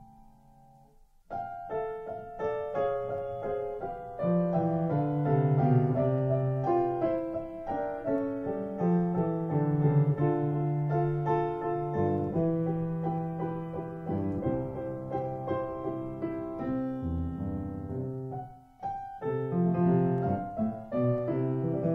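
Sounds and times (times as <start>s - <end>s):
piano bass notes: 0.0s - 21.9s
piano melody: 0.0s - 21.9s.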